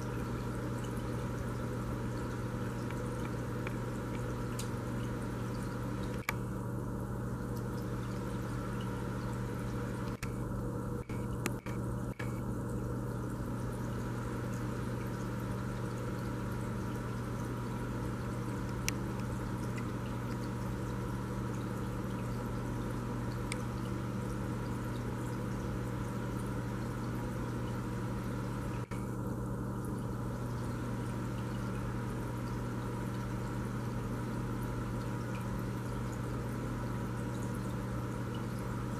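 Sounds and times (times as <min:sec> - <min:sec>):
water trickling and dripping: 0:00.0 - 0:06.4, 0:07.4 - 0:10.4, 0:11.0 - 0:29.0, 0:29.6 - 0:38.9
aquarium equipment low hum: 0:00.0 - 0:38.9.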